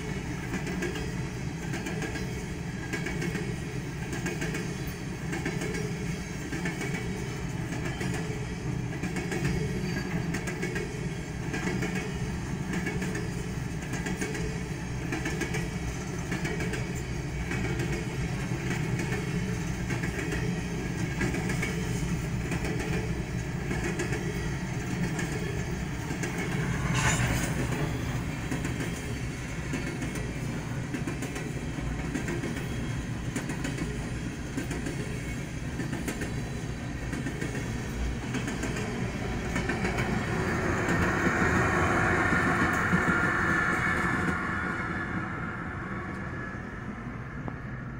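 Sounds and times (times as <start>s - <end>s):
train cars rumbling: 0.0s - 47.9s.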